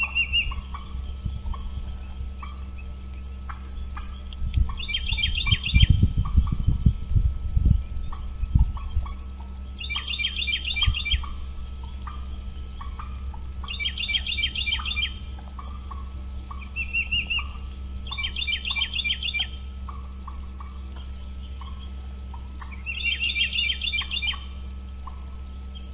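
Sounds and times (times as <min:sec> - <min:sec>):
bird chirping rapidly: 0:00.0 - 0:25.9
soft low bird notes: 0:00.0 - 0:25.9
steady low hum: 0:00.0 - 0:25.9.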